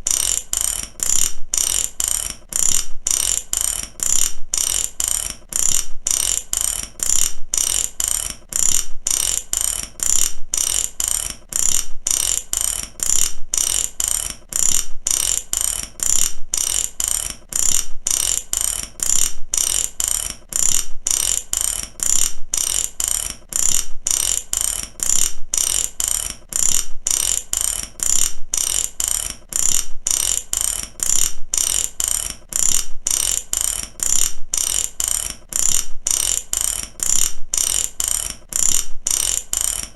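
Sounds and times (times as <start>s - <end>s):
ratchet pawl clicking: 0.0s - 39.9s.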